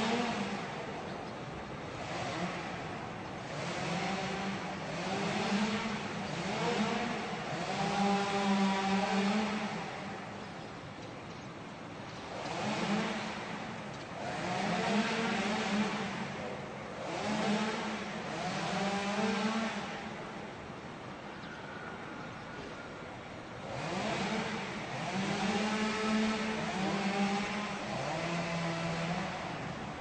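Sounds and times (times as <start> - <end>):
chainsaw revving: 0.0 - 0.9, 1.8 - 10.4, 12.2 - 20.4, 23.6 - 30.0.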